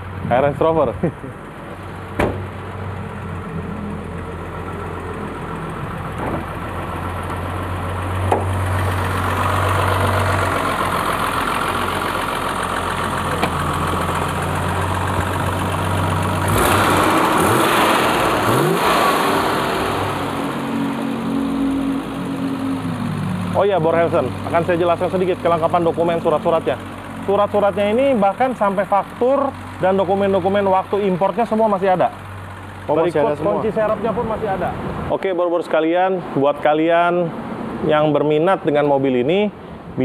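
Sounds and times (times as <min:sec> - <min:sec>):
car engine idling: 0:00.0 - 0:35.3.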